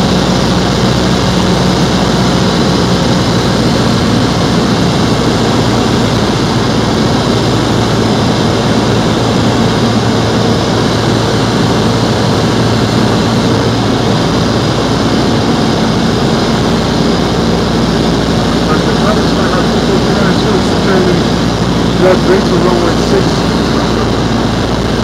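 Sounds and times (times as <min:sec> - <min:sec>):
airplane engine drone in cabin: 0:00.0 - 0:25.0.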